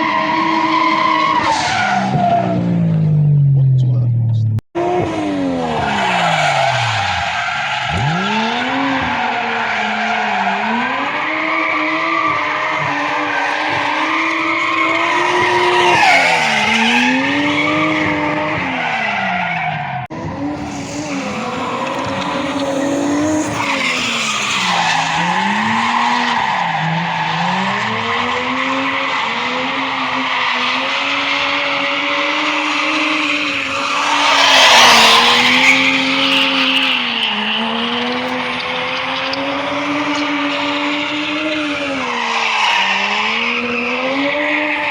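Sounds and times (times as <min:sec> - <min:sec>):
car engine revving: 0:00.0 - 0:44.9
tyres squealing on tarmac: 0:05.7 - 0:18.1, 0:20.6 - 0:28.0, 0:28.6 - 0:44.9.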